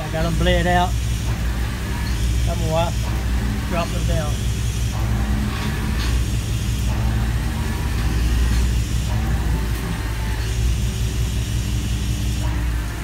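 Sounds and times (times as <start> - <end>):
hydraulic jacks humming: 0.0 - 13.0.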